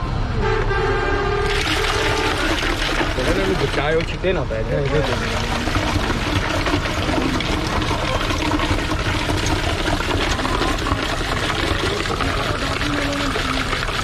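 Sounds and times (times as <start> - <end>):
liquid pouring and splashing: 1.4 - 14.0.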